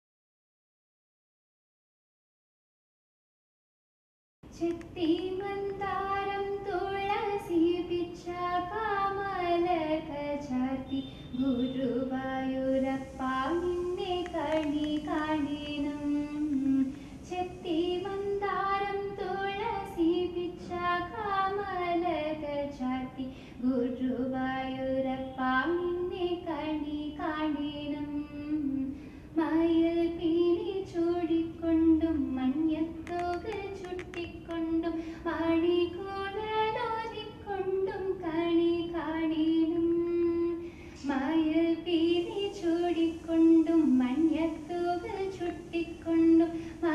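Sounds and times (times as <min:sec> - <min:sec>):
woman singing devotional song: 0:04.5 - 0:46.9.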